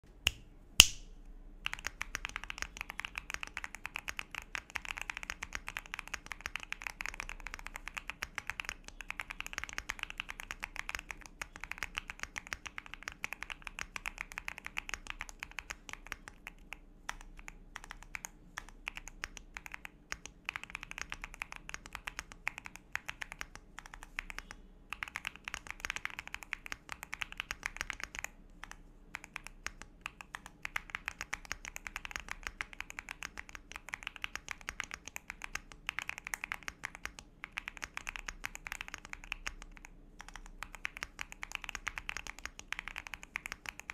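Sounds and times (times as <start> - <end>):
mechanical keyboard typing: 1.6 - 43.9.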